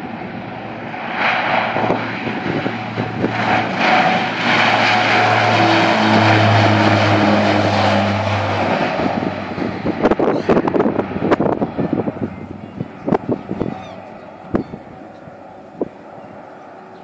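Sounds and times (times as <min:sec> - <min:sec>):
low propeller hum: 0:00.0 - 0:17.0
turboprop engines roaring: 0:00.0 - 0:17.0.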